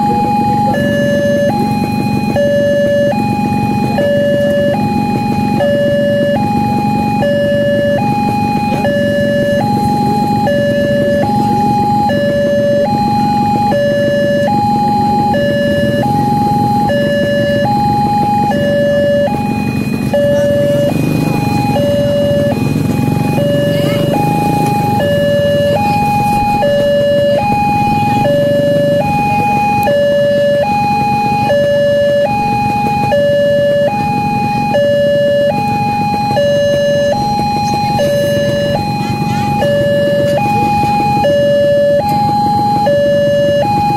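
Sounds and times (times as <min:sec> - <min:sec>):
level crossing two-tone alarm: 0:00.0 - 0:43.9.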